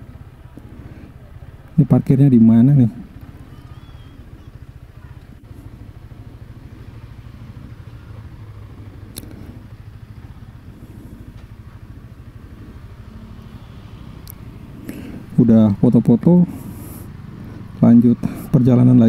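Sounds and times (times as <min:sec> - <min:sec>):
motorcycle engine idling low: 0:00.0 - 0:19.0.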